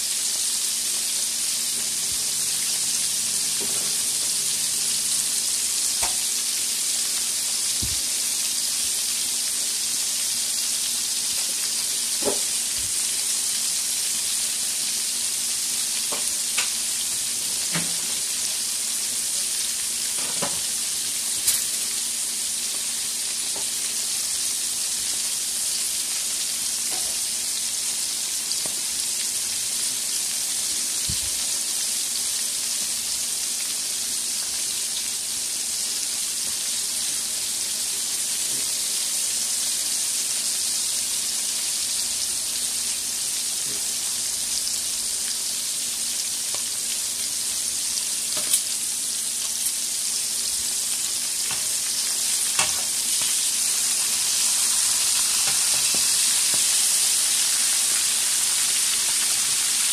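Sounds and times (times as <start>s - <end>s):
fish deep frying in oil: 0.0s - 59.9s.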